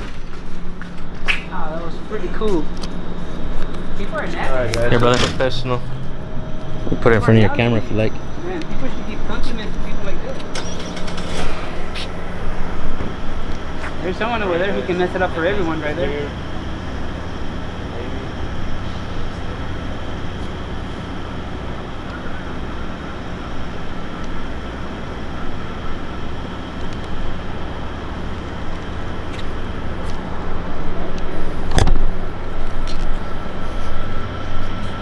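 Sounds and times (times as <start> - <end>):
road traffic with engine hum: 0.0 - 35.0.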